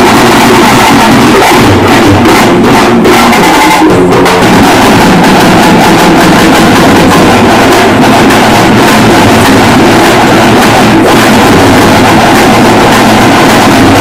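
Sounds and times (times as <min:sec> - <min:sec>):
loud drumming of large drums: 0:00.0 - 0:14.0.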